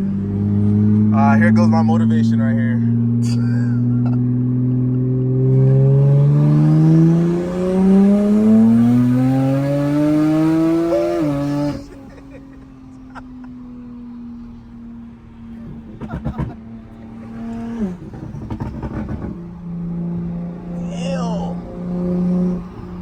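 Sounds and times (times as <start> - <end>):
turbocharged car engine revving: 0.0 - 23.0.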